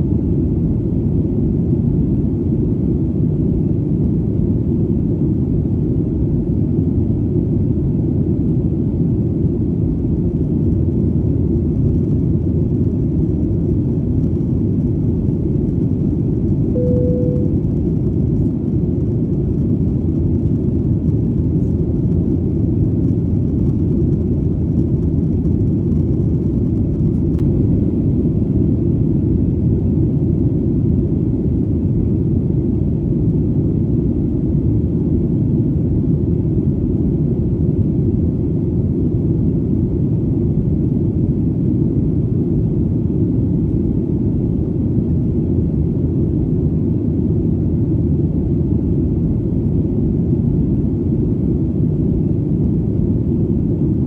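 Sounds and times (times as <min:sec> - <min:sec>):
airplane rumble in flight: 0:00.0 - 0:54.0.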